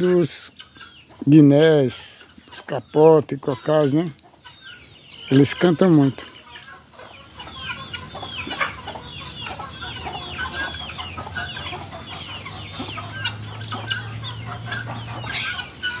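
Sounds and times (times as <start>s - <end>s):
guineafowl calling: 0.0s - 16.0s.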